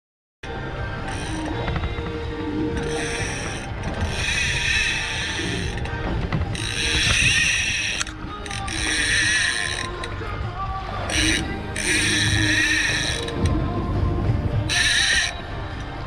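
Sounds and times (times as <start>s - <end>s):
fishing reel whirring and clicking: 0.5s - 10.2s, 11.0s - 13.6s, 14.7s - 16.0s.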